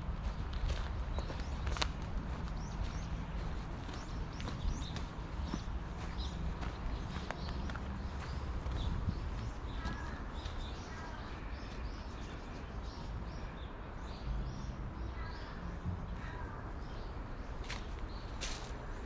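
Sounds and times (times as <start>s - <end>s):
low outdoor rumble: 0.0s - 19.0s
small birds chirping: 0.2s - 19.0s.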